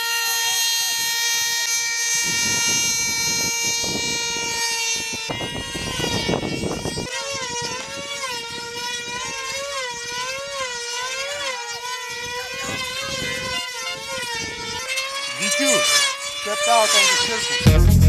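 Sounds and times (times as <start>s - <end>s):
model engines whining: 0.0s - 18.0s.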